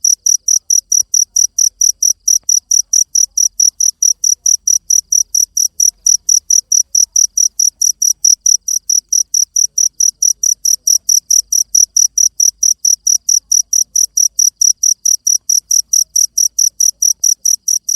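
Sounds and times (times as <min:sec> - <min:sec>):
cricket chirping: 0:00.0 - 0:17.9.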